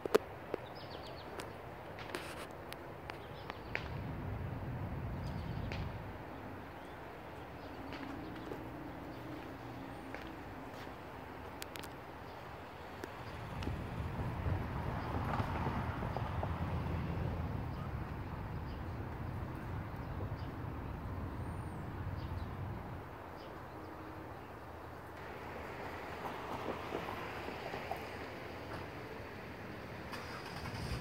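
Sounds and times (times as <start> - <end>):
low outdoor rumble: 2.7 - 31.0.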